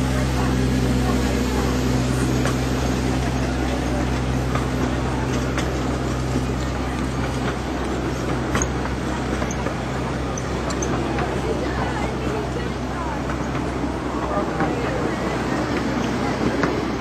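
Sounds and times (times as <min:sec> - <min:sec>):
coach wheels rumbling on rails: 0:00.0 - 0:17.0
locomotive low drone: 0:00.0 - 0:17.0.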